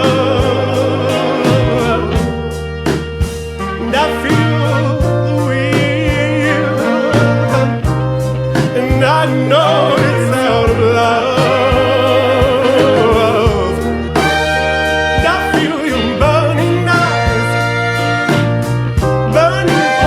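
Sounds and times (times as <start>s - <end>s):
wordless singing voice: 0.0s - 2.8s, 3.6s - 20.0s
song with beat and bass: 0.0s - 20.0s.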